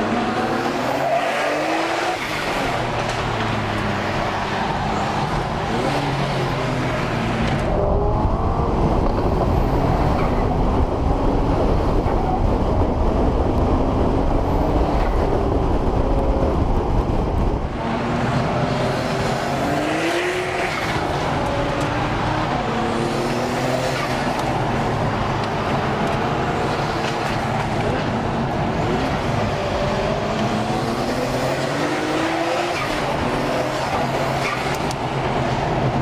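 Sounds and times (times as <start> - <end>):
performance car engine revving: 0.0 - 36.0.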